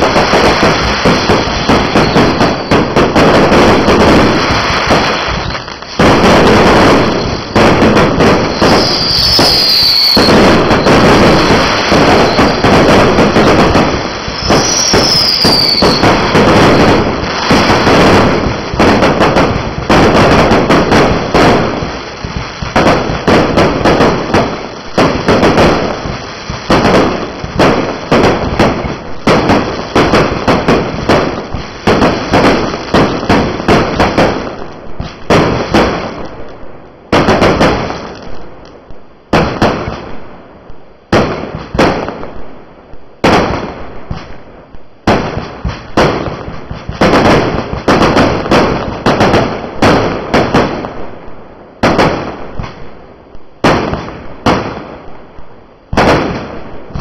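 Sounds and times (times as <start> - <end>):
fireworks bangs and bursts: 0.0 - 57.0.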